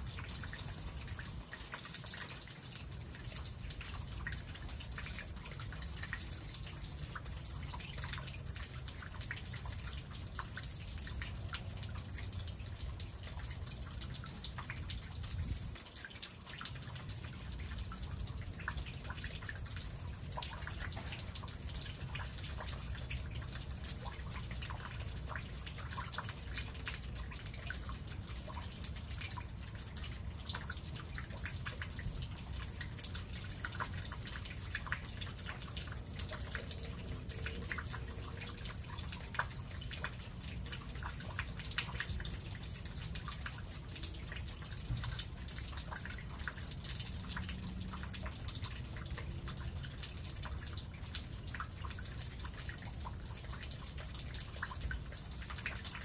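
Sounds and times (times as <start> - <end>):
low steady background noise: 0.0 - 56.0
meltwater dripping: 0.0 - 56.0.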